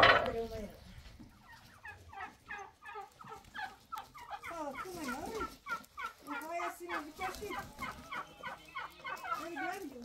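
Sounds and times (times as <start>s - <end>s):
turkeys gobbling: 0.0s - 0.6s, 1.3s - 10.0s.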